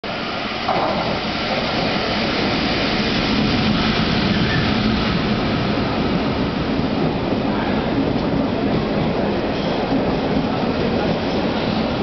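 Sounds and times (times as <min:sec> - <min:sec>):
train rumbling into station: 0:00.0 - 0:12.0.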